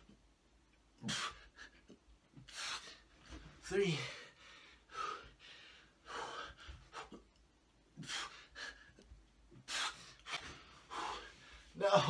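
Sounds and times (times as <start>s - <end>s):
man breathing hard and gasping: 1.0s - 11.9s.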